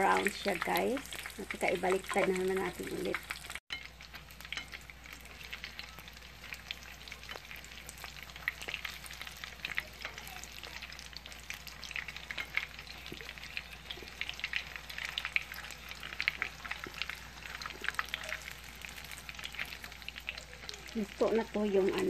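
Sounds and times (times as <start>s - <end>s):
spring rolls sizzling in oil: 0.0s - 22.0s.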